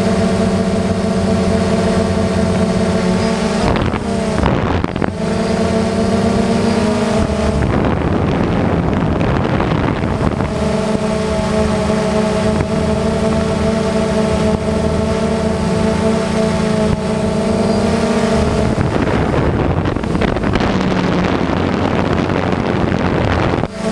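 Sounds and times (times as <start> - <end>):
quadcopter motors buzzing: 0.0 - 23.9.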